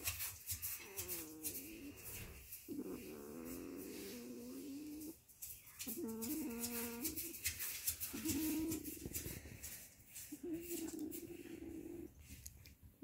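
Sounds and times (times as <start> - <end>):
faint rustling: 0.0 - 13.0.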